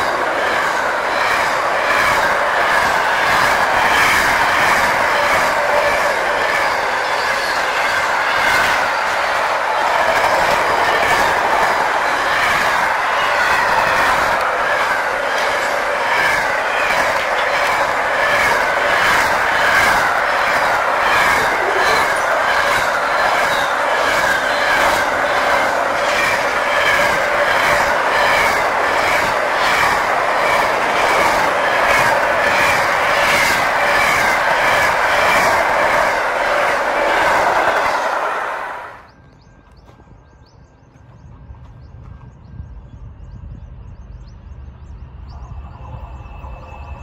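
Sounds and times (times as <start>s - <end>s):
wheels clacking over rail joints: 0.0s - 42.3s
freight train wheels rumbling: 0.0s - 47.0s.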